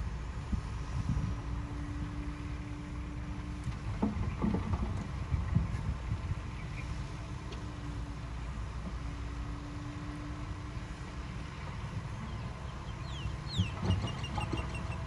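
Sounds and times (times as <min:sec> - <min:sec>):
heavy machinery diesel engine rumble: 0:00.0 - 0:15.0.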